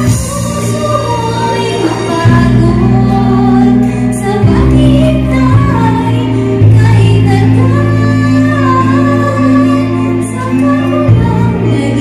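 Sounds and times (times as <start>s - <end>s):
woman singing into microphone: 0.0s - 12.0s.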